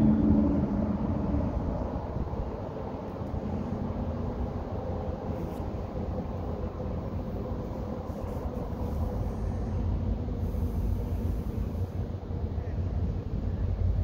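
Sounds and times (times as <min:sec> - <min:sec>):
faint steady hum: 0:00.0 - 0:14.0
low vehicle rumble: 0:00.0 - 0:14.0.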